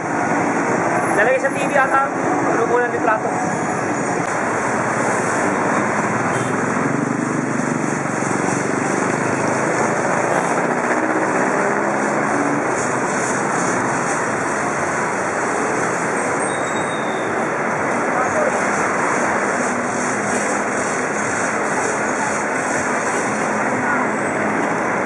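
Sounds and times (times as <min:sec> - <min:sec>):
car engines passing: 0:00.0 - 0:25.0.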